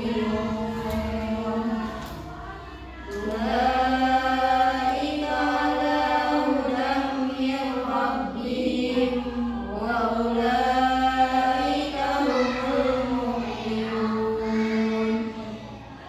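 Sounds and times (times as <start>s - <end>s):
woman chanting melodically: 0.0s - 16.0s.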